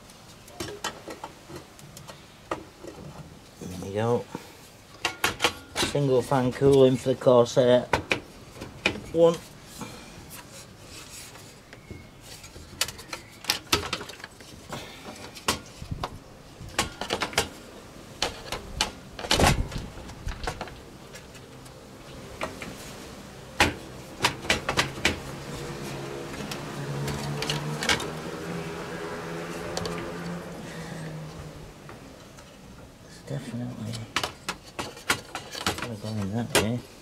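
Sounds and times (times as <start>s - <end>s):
cooling fan humming: 1.2s - 37.0s.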